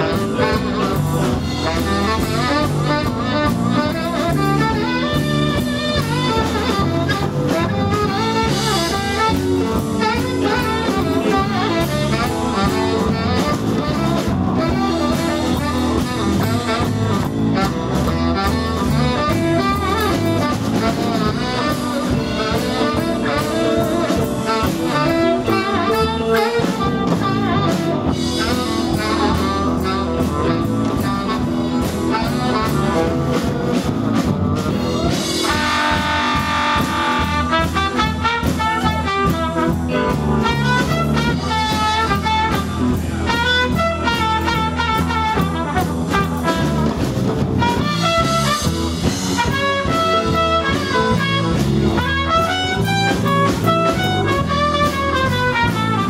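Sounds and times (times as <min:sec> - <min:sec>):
drum kit: 0:00.0 - 0:56.0
electric guitar: 0:00.0 - 0:56.0
saxophone: 0:00.0 - 0:56.0.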